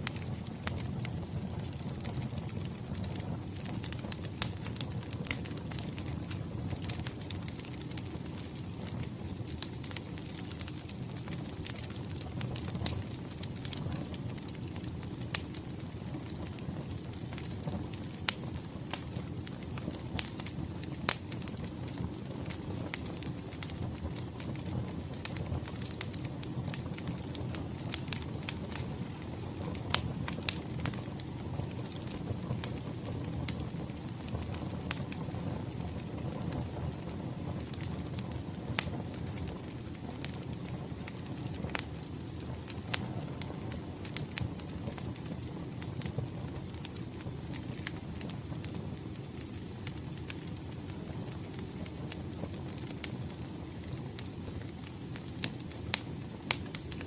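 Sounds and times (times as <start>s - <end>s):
low rumble of burning logs: 0.0s - 57.0s
wood fire crackling: 0.0s - 57.0s.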